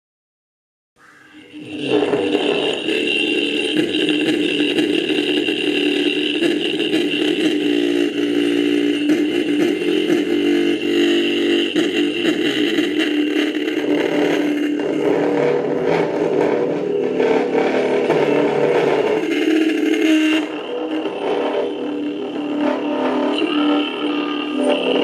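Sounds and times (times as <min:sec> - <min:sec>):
distorted electric horn tone: 0:01.0 - 0:25.0.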